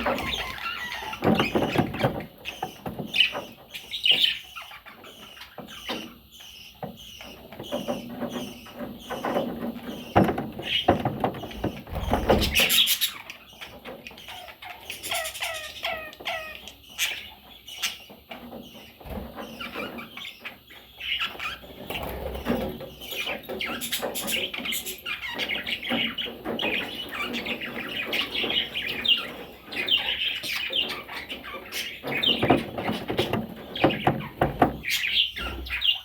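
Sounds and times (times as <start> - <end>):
bird chicks chirping: 0.0 - 36.0.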